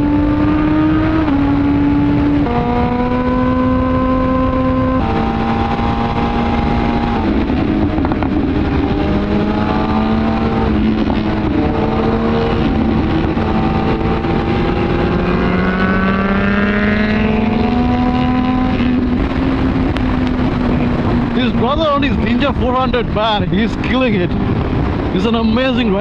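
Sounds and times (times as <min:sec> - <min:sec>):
motorcycle engine pulling hard: 0:00.0 - 0:26.0
wind rushing: 0:00.0 - 0:26.0.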